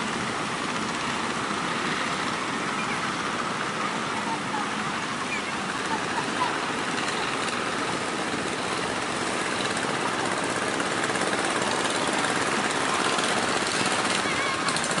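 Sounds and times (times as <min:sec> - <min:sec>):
boat engines chattering: 0:00.0 - 0:15.0.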